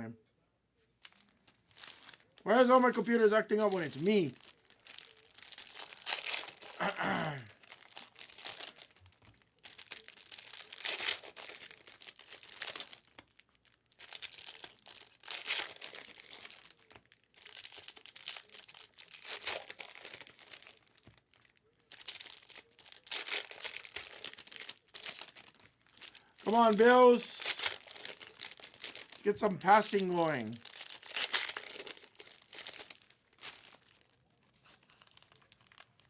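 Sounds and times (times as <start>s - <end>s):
plastic wrappers crinkling: 1.0s - 36.0s.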